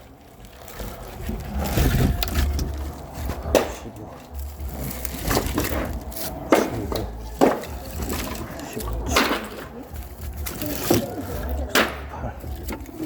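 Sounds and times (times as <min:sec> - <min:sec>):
low rumble: 0:00.0 - 0:13.0
wooden logs knocking together: 0:00.0 - 0:13.0.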